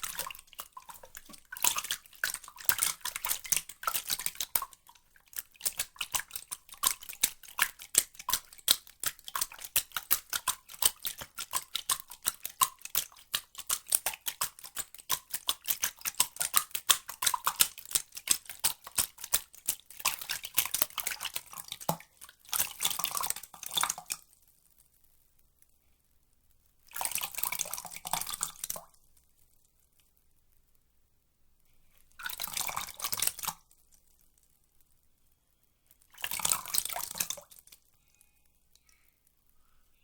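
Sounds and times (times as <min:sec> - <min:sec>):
water dripping and splashing: 0:00.0 - 0:24.4, 0:26.8 - 0:30.1, 0:32.0 - 0:34.5, 0:36.0 - 0:39.1.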